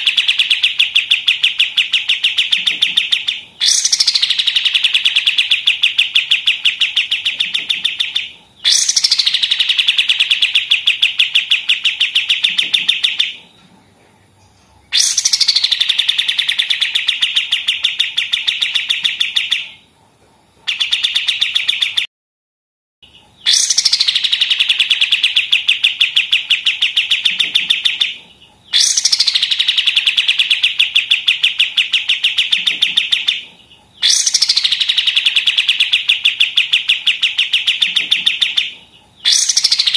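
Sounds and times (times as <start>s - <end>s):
bird singing rapid trill: 0.0s - 13.5s, 14.4s - 20.0s, 20.6s - 22.1s, 23.0s - 39.9s.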